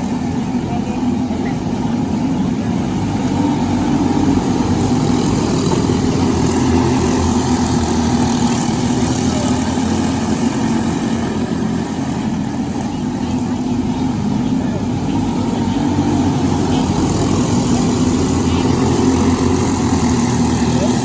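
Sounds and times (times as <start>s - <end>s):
kart engine running: 0.0s - 21.0s.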